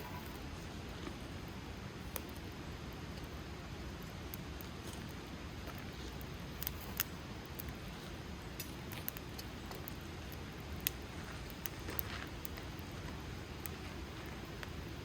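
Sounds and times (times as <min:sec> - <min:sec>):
flames rumbling: 0:00.0 - 0:15.0
wood fire pops and snaps: 0:00.0 - 0:15.0.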